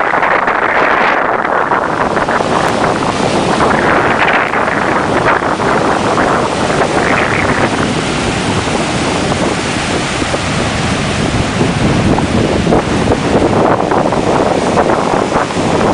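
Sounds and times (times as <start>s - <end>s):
heavy surf breaking on rocks: 0.0s - 15.9s
wind buffeting microphone: 0.0s - 15.9s.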